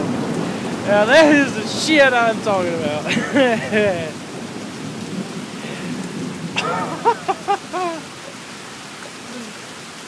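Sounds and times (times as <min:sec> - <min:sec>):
rolling thunder: 0:00.0 - 0:08.4
steady rain: 0:00.0 - 0:10.0.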